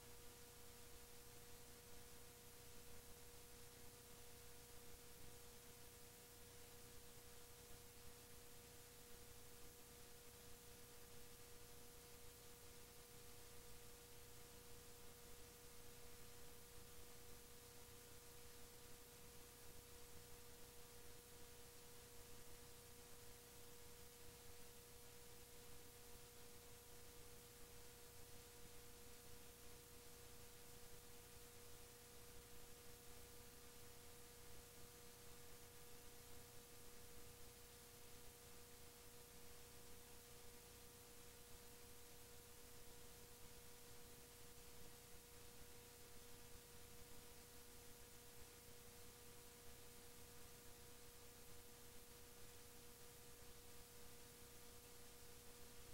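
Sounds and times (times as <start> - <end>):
faint steady hum: 0.0 - 55.9
tape hiss: 0.0 - 55.9.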